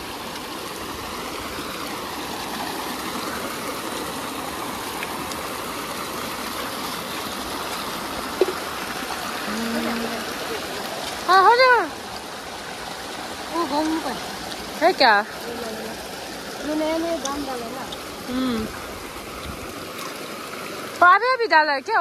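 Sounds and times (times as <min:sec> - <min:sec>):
water gushing into stream: 0:00.0 - 0:21.3.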